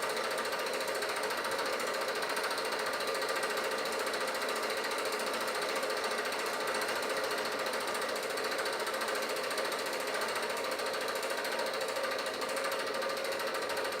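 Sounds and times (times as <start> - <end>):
film projector clattering: 0.0 - 14.0.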